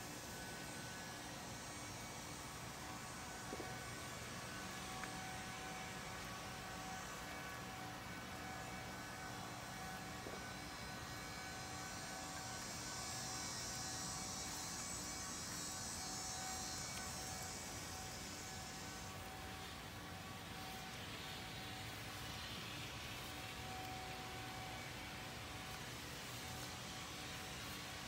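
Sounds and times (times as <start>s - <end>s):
background hum: 0.0s - 28.0s.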